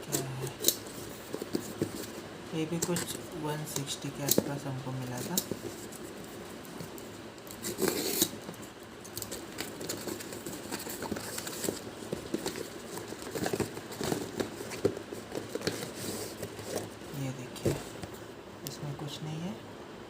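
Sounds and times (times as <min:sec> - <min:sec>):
cardboard packaging rustling: 0:00.0 - 0:18.3.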